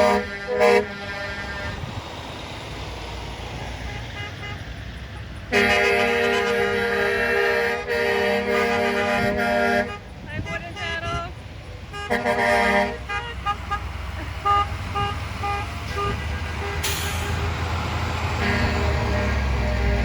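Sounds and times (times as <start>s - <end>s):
truck horn blasts: 0.0s - 2.0s, 3.8s - 17.6s, 18.3s - 20.0s
vehicle noise: 0.0s - 20.0s.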